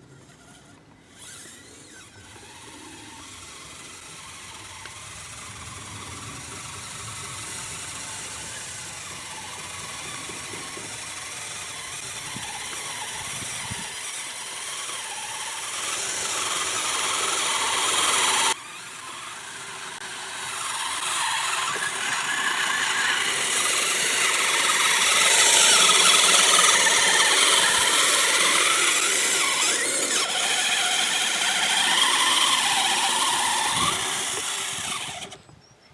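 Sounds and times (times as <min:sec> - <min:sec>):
electric motor whine: 0:00.0 - 0:35.6
gears and tracks squealing and ratcheting: 0:00.0 - 0:35.6.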